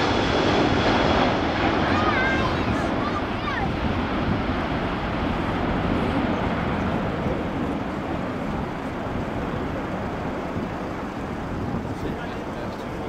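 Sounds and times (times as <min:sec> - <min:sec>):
jet engine rumble: 0:00.0 - 0:13.0.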